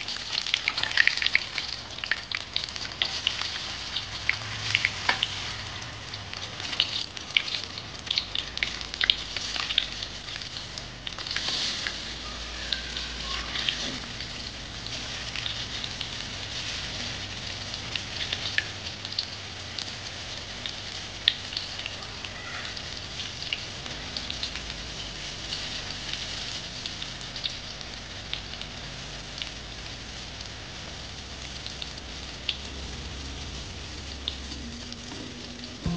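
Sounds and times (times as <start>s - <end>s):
oil sizzling in a wok: 0.0s - 35.9s.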